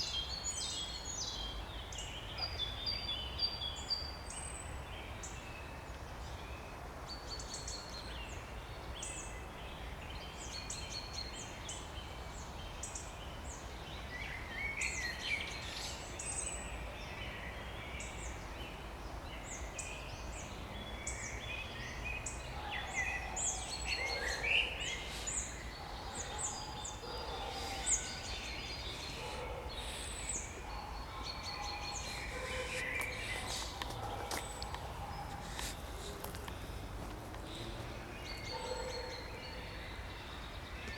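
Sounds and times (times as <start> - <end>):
low background noise: 0.0 - 40.9
songbirds singing and calling: 0.0 - 40.9.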